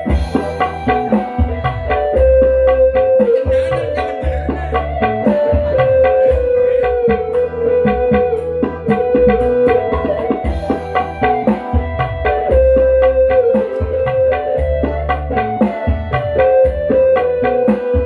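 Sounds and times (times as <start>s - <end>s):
drum strokes: 0.0s - 16.1s
heavy bass line: 0.0s - 17.7s
held melody line: 0.0s - 18.0s.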